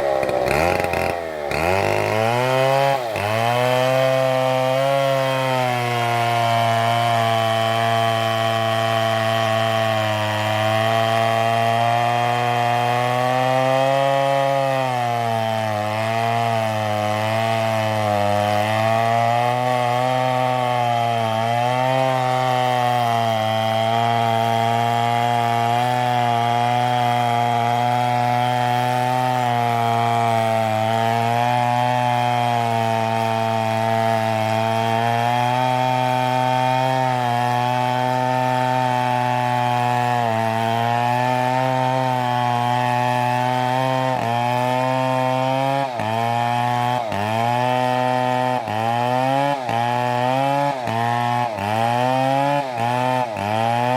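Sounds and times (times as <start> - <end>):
chainsaw cutting a tree: 0.0 - 53.9.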